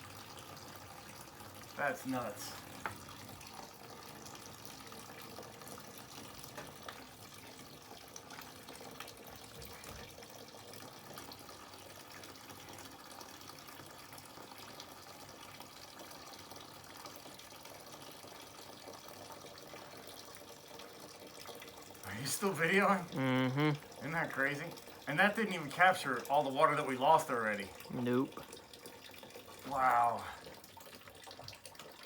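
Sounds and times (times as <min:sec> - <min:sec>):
water dripping: 0:00.0 - 0:32.0
water running from a pipe: 0:00.0 - 0:32.0.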